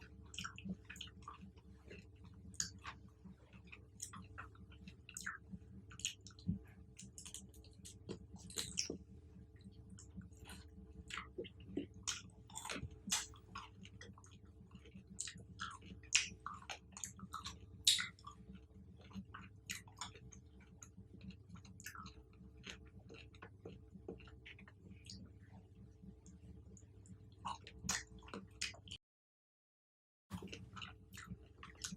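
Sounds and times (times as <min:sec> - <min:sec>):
chewing fruit: 0:00.0 - 0:29.0, 0:30.3 - 0:31.9.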